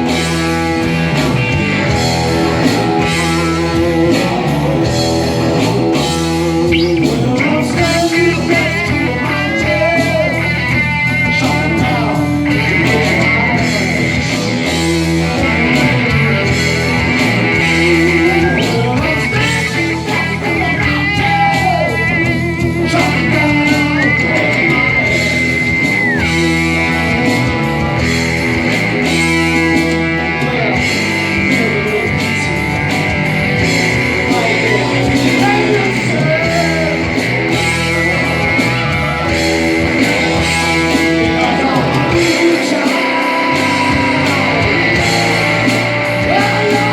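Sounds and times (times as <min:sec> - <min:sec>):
electric guitar: 0:00.0 - 0:46.9
live rock band playing: 0:00.0 - 0:46.9
person singing: 0:02.4 - 0:27.3, 0:29.0 - 0:46.9.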